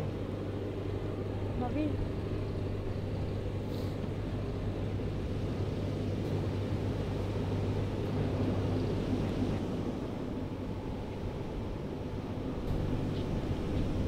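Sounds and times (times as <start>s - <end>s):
low engine hum: 0.0s - 14.0s
traffic background noise: 0.0s - 14.0s.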